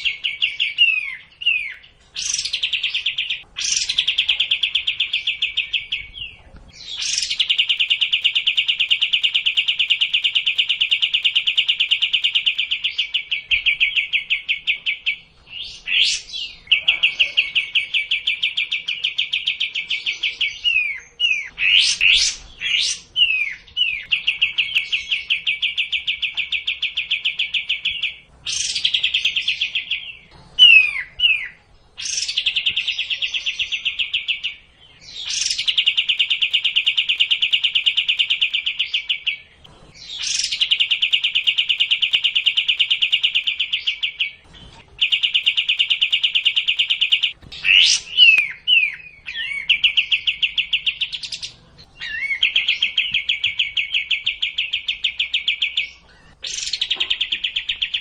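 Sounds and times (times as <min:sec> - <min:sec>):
bird fast trills: 0:00.0 - 0:58.0.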